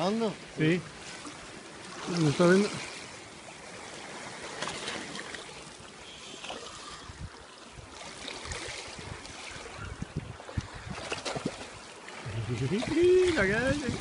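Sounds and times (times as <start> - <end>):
water lapping against rocks: 0.0 - 14.0.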